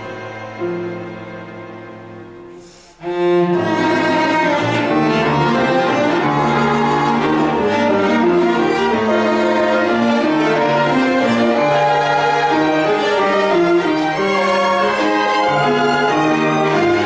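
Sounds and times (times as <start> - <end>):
piano quartet chamber music: 0.0 - 17.0.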